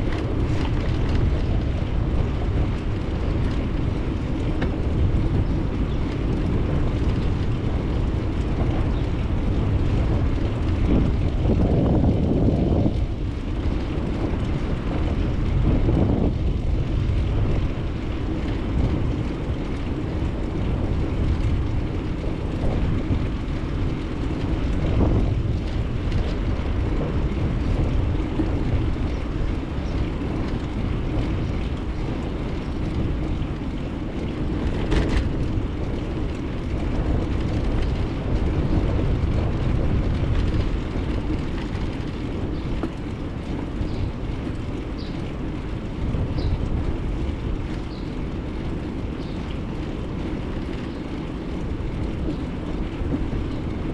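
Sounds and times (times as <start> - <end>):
bicycle rolling: 0.0 - 53.9
wind on microphone: 0.0 - 53.9.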